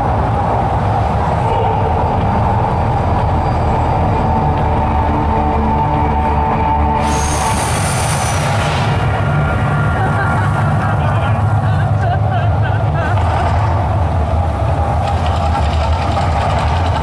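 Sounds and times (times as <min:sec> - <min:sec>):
heavy low rumble: 0:00.0 - 0:17.0
loud soundtrack music: 0:00.2 - 0:15.4.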